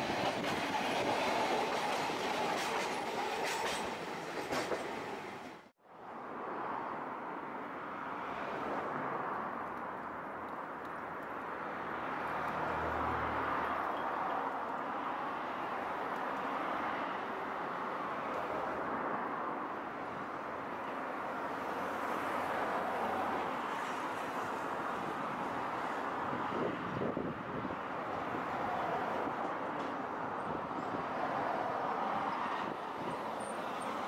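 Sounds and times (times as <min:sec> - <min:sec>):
cars passing: 0:04.8 - 0:34.0.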